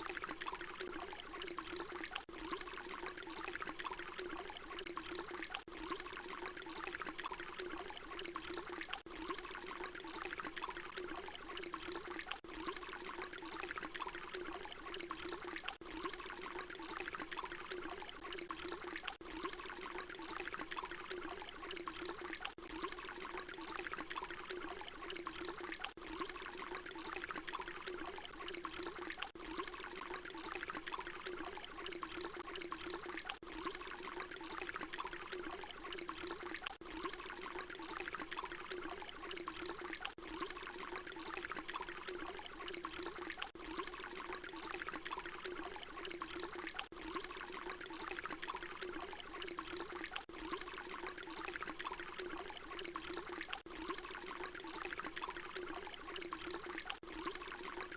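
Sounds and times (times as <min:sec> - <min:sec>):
water pouring: 0:00.0 - 0:57.9.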